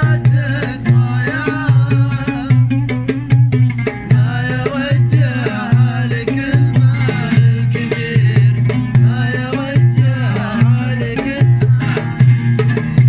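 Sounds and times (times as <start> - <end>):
low percussive beat: 0.0 - 13.0
oud plucked folk tune: 0.0 - 13.0.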